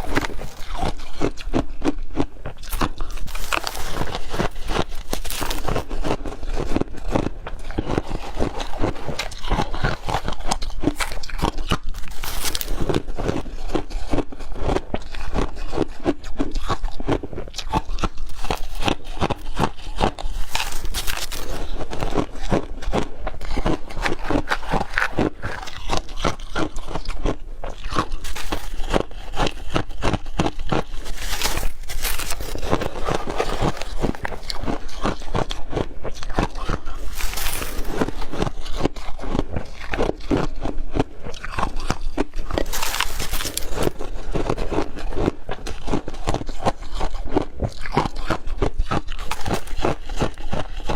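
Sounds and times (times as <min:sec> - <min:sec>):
chewing crushed ice: 0:00.0 - 0:50.9.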